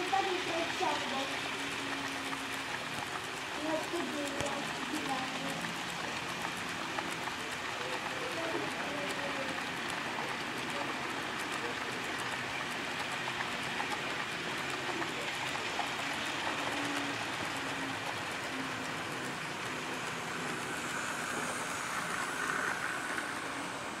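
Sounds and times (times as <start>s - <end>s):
model train wheels rattling: 0.0s - 24.0s
thin locomotive whine: 0.0s - 24.0s.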